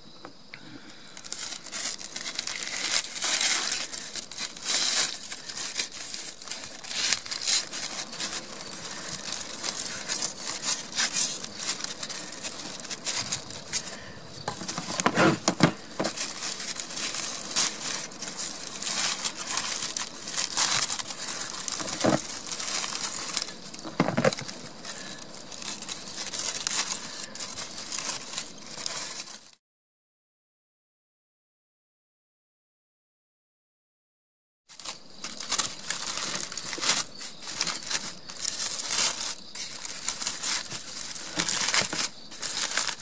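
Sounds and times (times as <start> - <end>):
aluminium foil crinkling: 0.9 - 29.6, 34.7 - 43.0.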